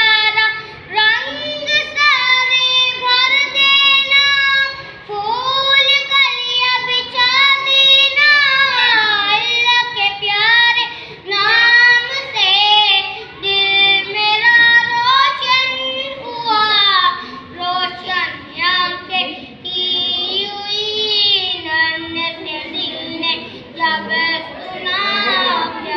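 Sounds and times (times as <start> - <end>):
child singing: 0.0 - 25.9.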